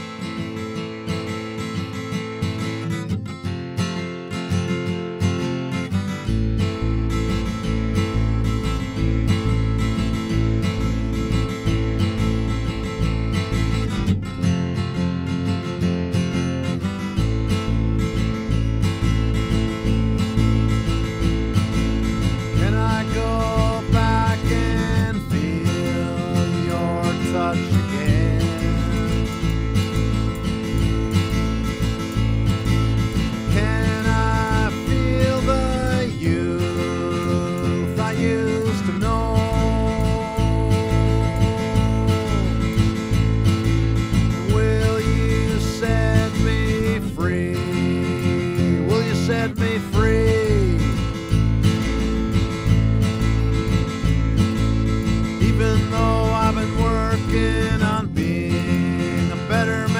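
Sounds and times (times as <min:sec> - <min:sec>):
strummed acoustic guitar: 0:00.0 - 0:59.9
steady low bass: 0:06.3 - 0:15.2, 0:16.4 - 0:48.9, 0:49.9 - 0:59.9.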